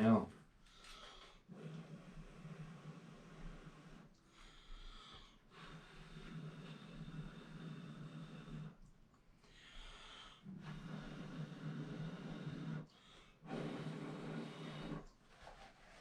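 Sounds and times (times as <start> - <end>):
person breathing: 0.6 - 15.2.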